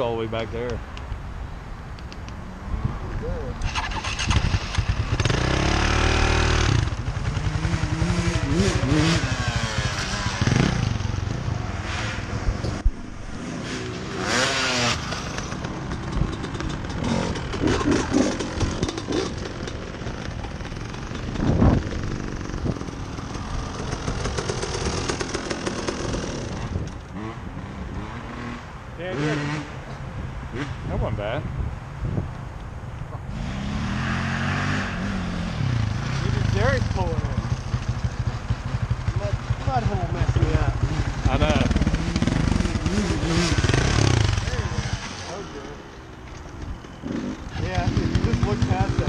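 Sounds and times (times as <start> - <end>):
off-road engines revving: 2.6 - 31.5, 33.1 - 49.0.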